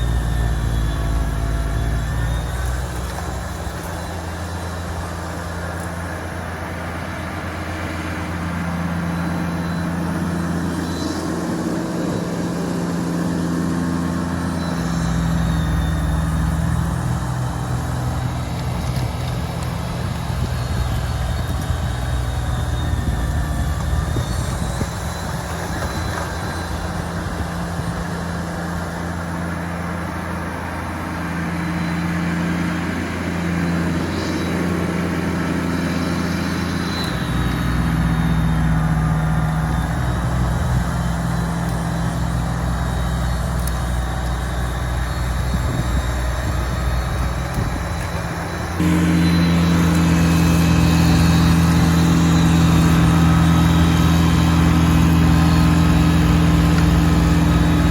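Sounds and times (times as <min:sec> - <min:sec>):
diesel tractor engine under load: 0:00.0 - 0:57.9
snowblower rushing noise: 0:00.0 - 0:57.9.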